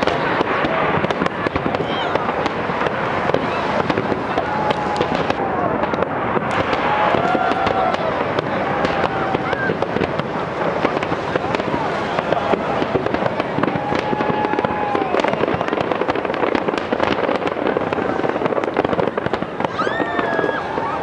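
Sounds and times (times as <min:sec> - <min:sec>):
fireworks bangs and crackling: 0:00.0 - 0:21.0
fireworks whistling: 0:00.0 - 0:21.0.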